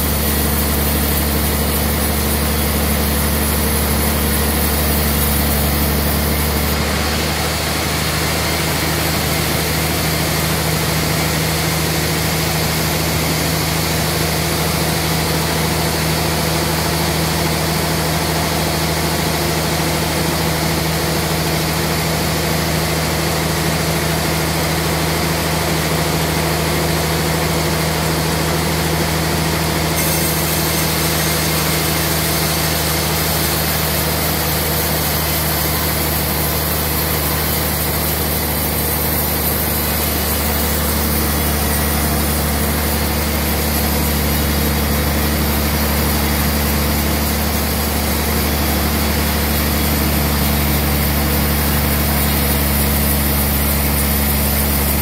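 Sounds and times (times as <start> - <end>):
saw motor humming: 0.0 - 24.6, 25.4 - 55.0
band saw cutting through log: 0.0 - 55.0.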